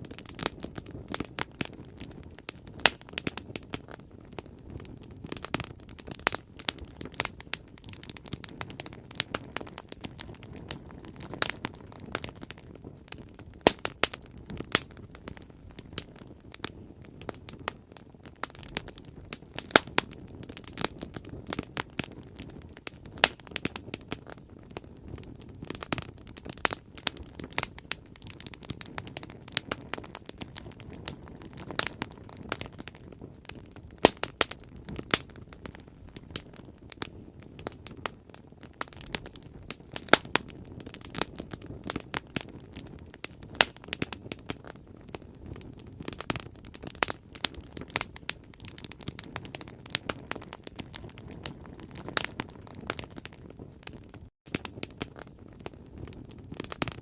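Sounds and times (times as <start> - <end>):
bonfire crackling and popping: 0.0 - 57.0
low rumble of flames: 0.0 - 57.0.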